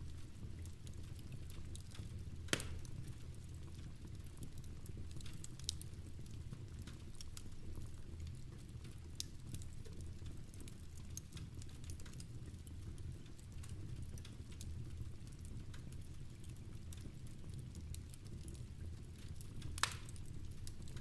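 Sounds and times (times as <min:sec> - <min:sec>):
fireplace fire crackling: 0:00.0 - 0:21.0
rain pattering: 0:00.0 - 0:21.0.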